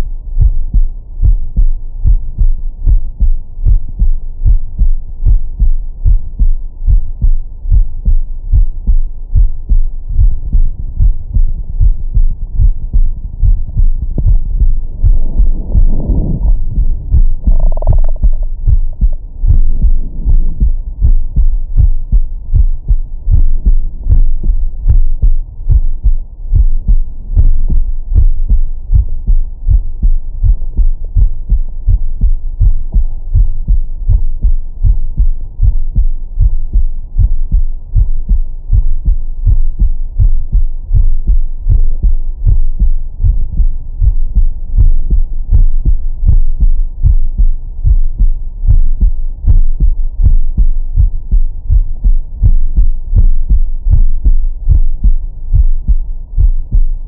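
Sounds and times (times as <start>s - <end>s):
heartbeat thumps through stethoscope: 0.0s - 57.0s.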